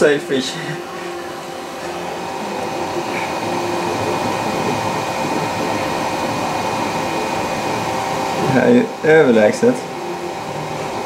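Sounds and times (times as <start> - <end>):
cooling fans humming: 0.0 - 11.0
stepper motors whirring: 0.2 - 11.0.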